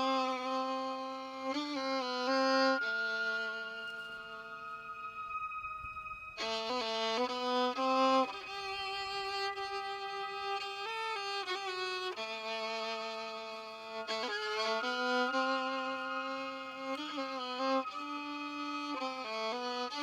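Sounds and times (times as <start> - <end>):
violin slow melody: 0.0 - 20.0.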